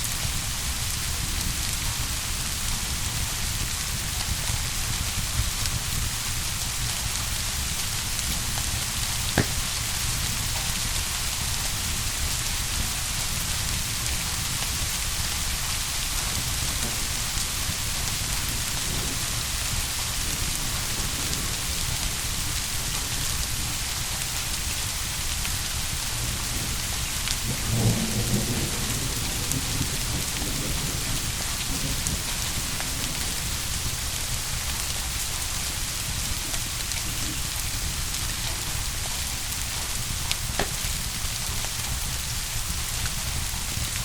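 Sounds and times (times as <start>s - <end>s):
heavy rain: 0.0s - 44.0s
low rumble of thunder: 0.0s - 44.0s.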